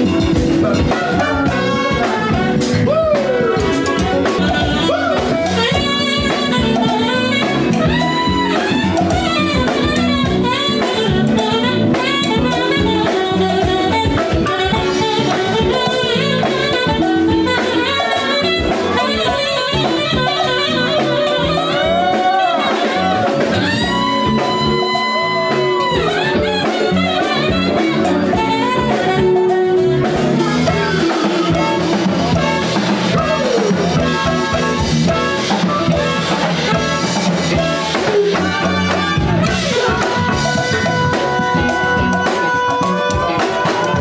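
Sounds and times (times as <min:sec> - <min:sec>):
live band playing: 0:00.0 - 0:44.0
person singing: 0:00.0 - 0:44.0
saxophone: 0:00.0 - 0:44.0.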